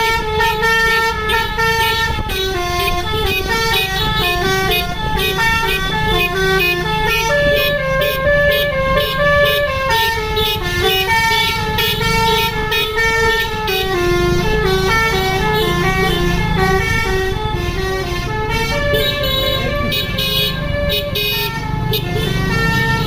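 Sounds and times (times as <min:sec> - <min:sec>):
bus engine rumble: 0:00.0 - 0:23.0
multi-tone air horns melody: 0:00.0 - 0:23.0.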